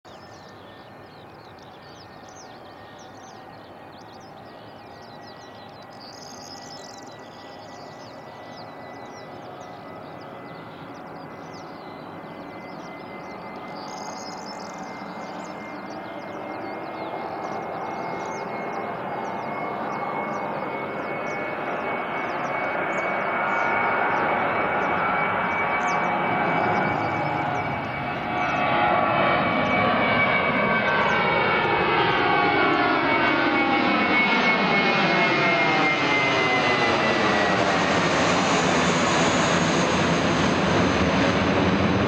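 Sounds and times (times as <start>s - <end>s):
distant jet engine rumble: 0.1s - 42.0s.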